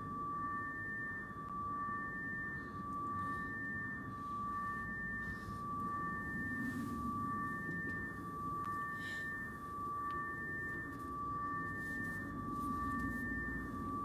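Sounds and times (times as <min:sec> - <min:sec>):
held ringing tones: 0:00.0 - 0:14.0
low rumble drone: 0:00.0 - 0:14.0.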